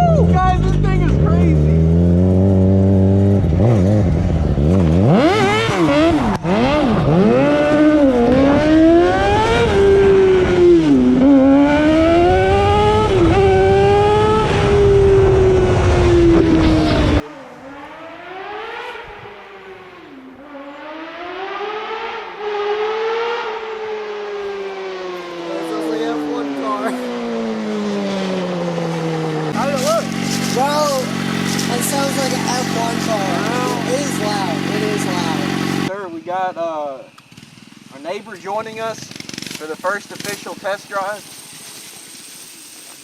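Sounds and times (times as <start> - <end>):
engine revving hard: 0.2 - 17.2, 17.8 - 36.0.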